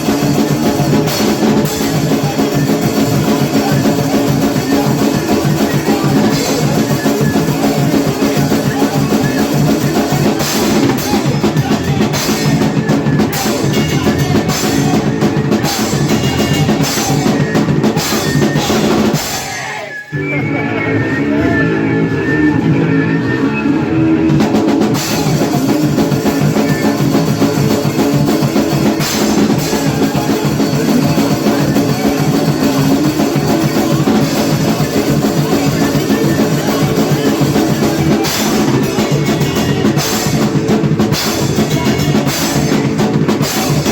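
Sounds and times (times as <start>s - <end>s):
distorted guitar passage: 0.0s - 43.9s
punk band playing: 0.0s - 43.9s.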